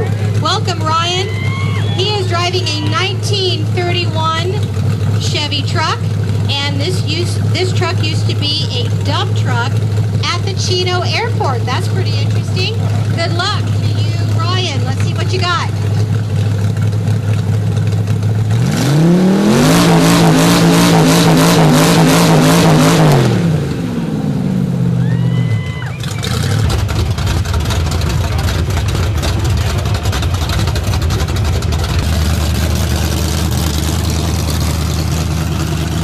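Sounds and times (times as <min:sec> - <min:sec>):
truck engine idling and revving: 0:00.0 - 0:36.0.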